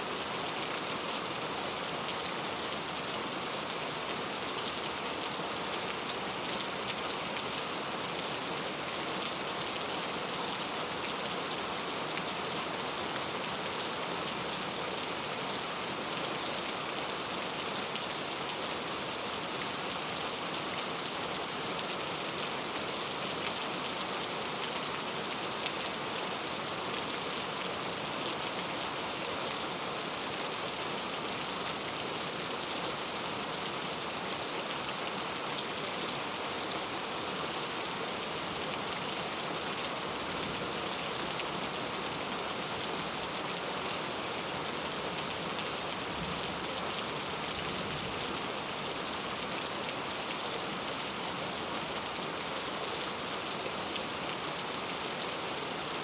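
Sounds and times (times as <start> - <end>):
rain falling on road: 0.0 - 56.0.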